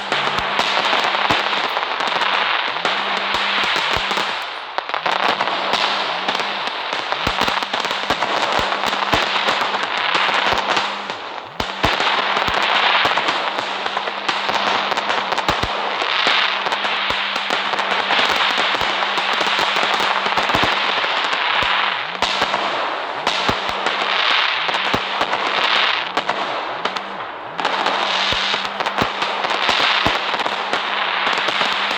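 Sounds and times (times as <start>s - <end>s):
fireworks crackling: 0.0s - 31.9s.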